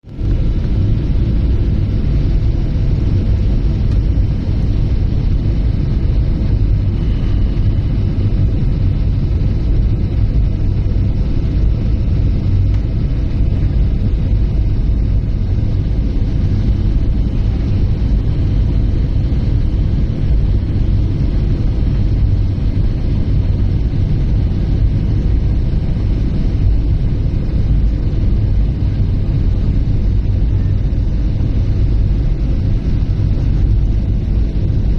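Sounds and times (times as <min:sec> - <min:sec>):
airliner cabin rumble: 0:00.0 - 0:34.9
faint steady whine: 0:00.0 - 0:34.9.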